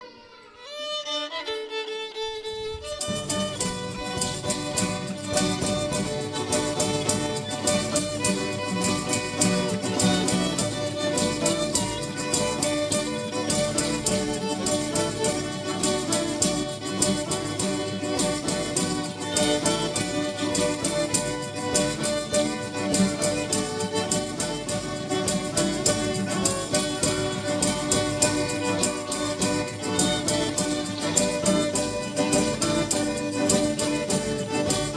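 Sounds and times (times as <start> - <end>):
instrumental band music: 2.5 - 34.9.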